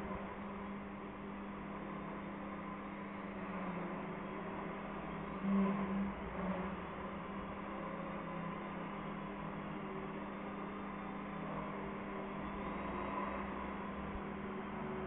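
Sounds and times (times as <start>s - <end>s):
model plane motor and propeller humming: 0.0s - 15.0s.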